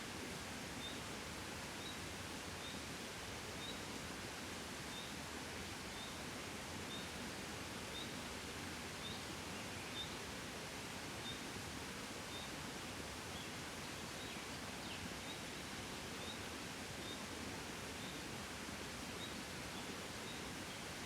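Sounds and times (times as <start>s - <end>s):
gentle breeze: 0.0s - 21.0s.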